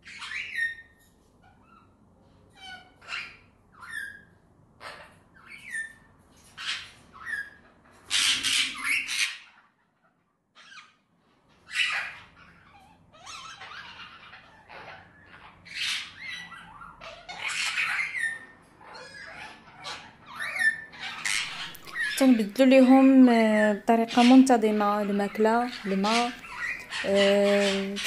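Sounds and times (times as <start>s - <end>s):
cockatiels chirping and squawking: 0.0s - 22.5s, 24.0s - 28.0s.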